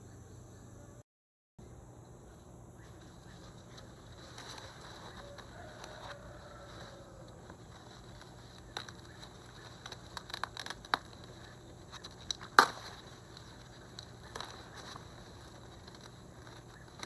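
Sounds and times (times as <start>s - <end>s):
low steady hum: 0.0s - 1.0s, 1.6s - 17.0s
crackles and clicks of handling: 2.3s - 17.0s.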